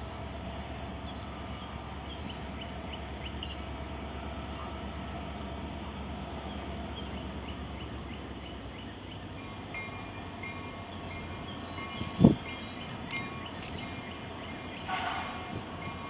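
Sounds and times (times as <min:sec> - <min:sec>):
locomotive engine throbbing: 0:00.0 - 0:16.0.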